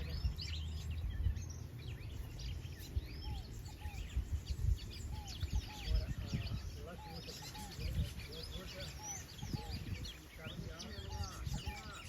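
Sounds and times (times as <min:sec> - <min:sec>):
many birds chirping: 0:00.0 - 0:12.0.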